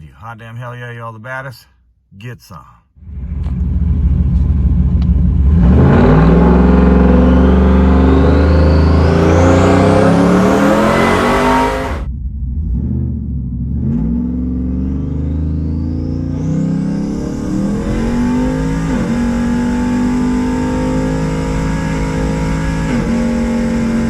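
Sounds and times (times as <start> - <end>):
truck engine accelerating hard: 3.0 - 24.0.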